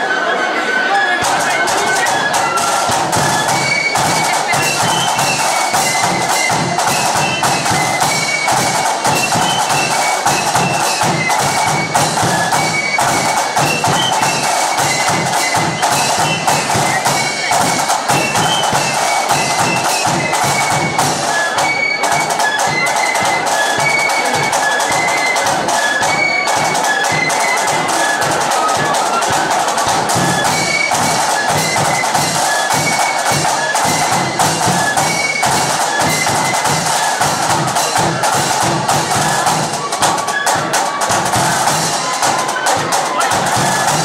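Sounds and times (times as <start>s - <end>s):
high flutes playing melody: 0.0s - 44.0s
rapid snare drum strokes: 1.2s - 44.0s.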